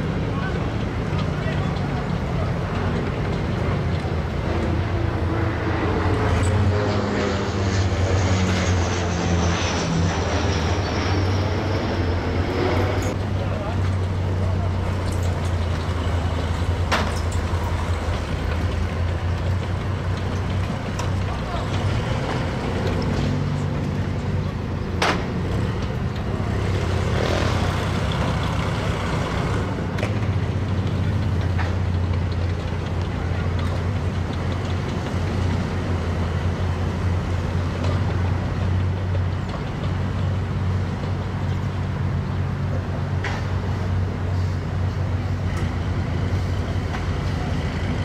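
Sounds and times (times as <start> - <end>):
deep engine hum: 0.0 - 48.0.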